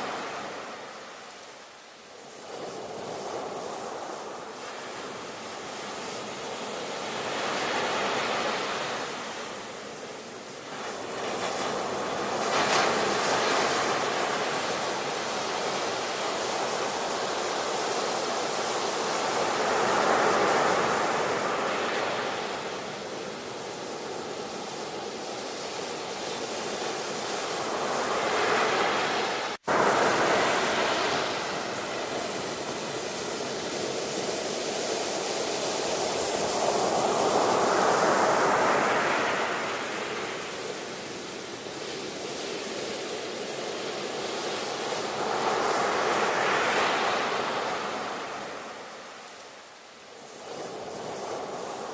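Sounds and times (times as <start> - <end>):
waves breaking ashore: 0.0 - 51.9.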